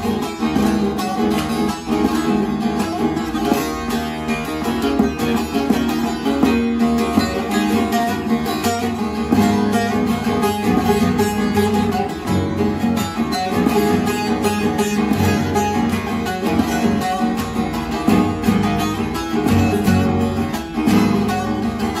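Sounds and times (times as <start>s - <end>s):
fast-picked folk melody on saz: 0.0s - 22.0s.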